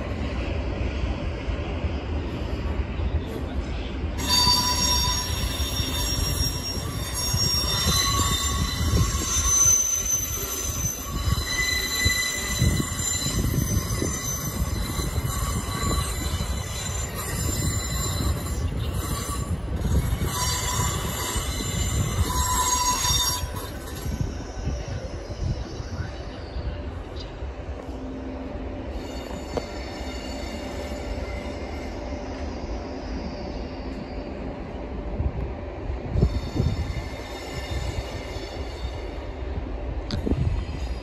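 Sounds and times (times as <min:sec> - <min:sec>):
train low rumble: 0:00.0 - 0:41.0
train wheels squealing: 0:02.2 - 0:41.0.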